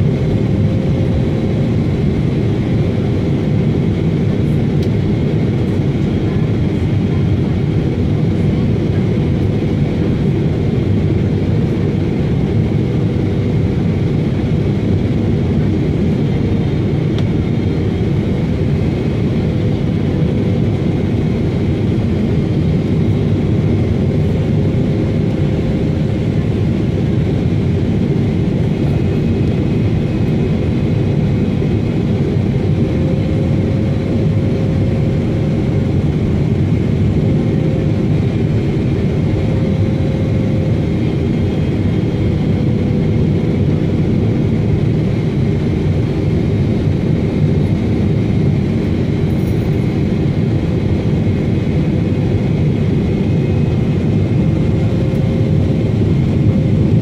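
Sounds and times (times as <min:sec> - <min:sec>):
jet engine drone and airflow: 0:00.0 - 0:57.0.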